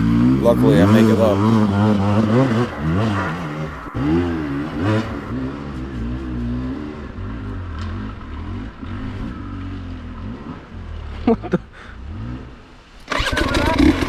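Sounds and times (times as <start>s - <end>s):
dirt bike engine revving: 0.0s - 11.1s, 12.1s - 14.0s.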